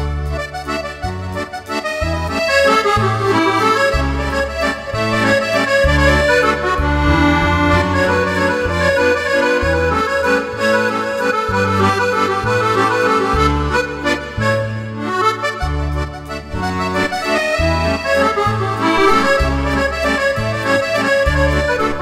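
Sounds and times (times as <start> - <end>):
accordion waltz: 0.0 - 22.0.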